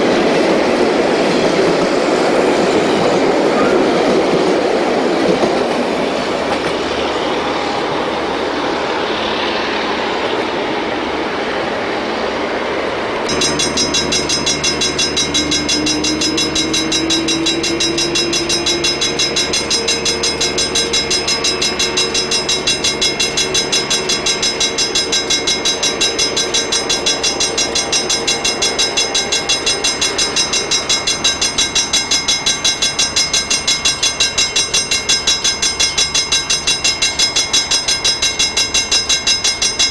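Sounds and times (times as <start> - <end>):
steady rhythmic pulsing: 0.0 - 39.9
train running: 0.0 - 39.9.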